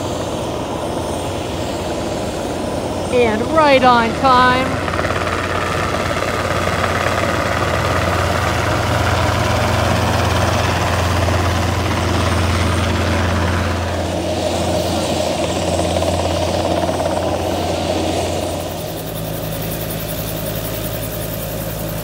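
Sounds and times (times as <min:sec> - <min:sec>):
aircraft engine drone: 0:00.0 - 0:22.0.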